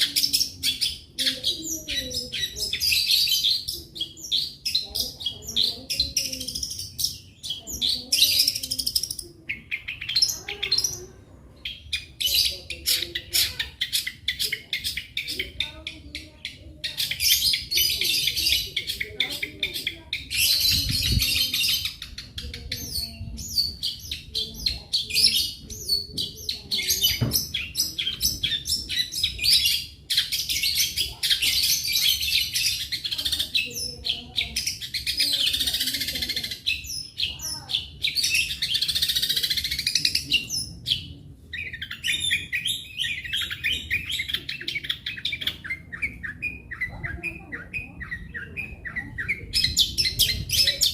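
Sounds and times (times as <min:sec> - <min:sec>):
bird singing rapid chirps and trills: 0:00.0 - 0:50.9.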